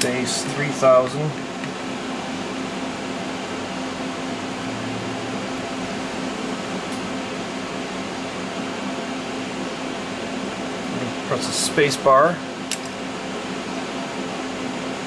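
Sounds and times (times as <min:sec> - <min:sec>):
cooling fans droning: 0:00.0 - 0:15.0
machine control hum: 0:00.0 - 0:15.0.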